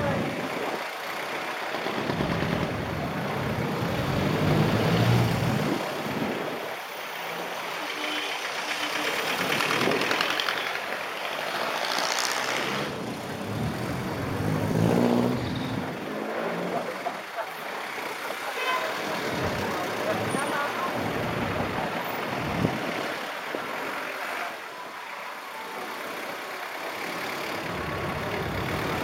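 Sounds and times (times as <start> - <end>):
road noise rushing: 0.0 - 29.0
vehicle engines passing: 0.0 - 29.0.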